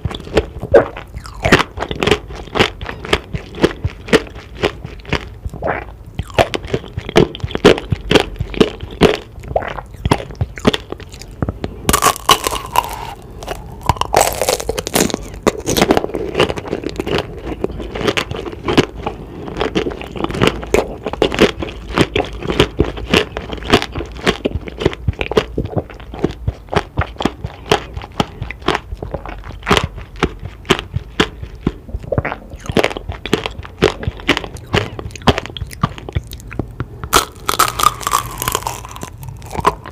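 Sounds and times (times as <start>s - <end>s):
crunching candied fruit: 0.0s - 39.9s.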